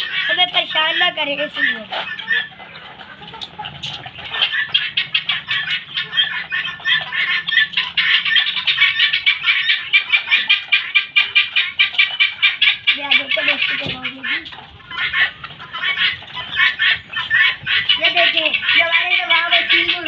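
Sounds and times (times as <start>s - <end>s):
guineafowl harsh cackling: 0.0s - 20.0s.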